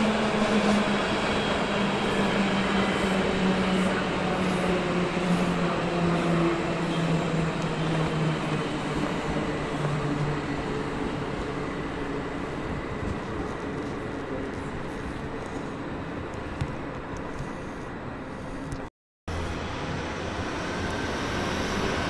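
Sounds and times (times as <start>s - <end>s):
train rumbling through station: 0.0s - 22.0s.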